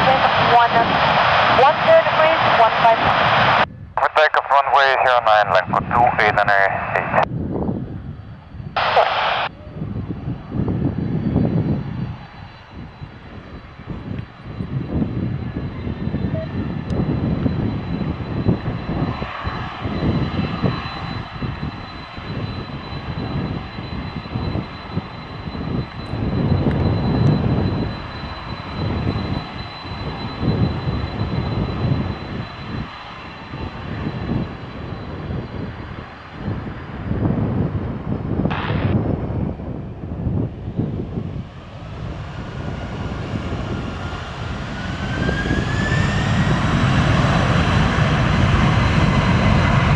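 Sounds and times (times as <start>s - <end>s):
jet engines spooling up: 0.0s - 49.9s
jet engines whining: 0.0s - 49.9s
low rumble: 0.0s - 49.9s.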